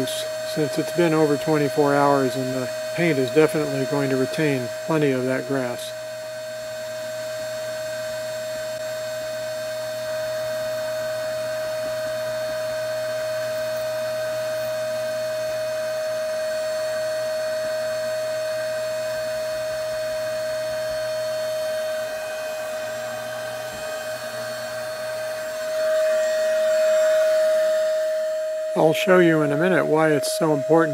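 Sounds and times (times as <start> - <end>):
vacuum cleaner whining: 0.0 - 30.9.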